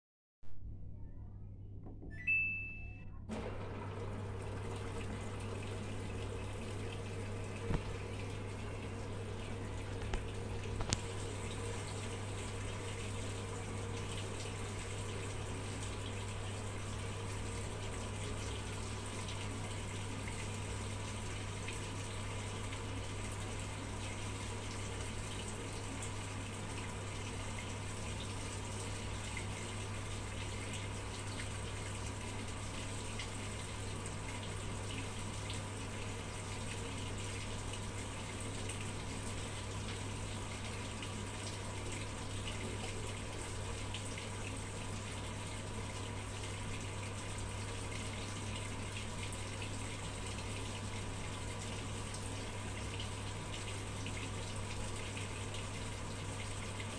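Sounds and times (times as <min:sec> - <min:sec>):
washing machine low hum: 0:00.5 - 0:56.9
water pouring into drum: 0:03.3 - 0:56.9.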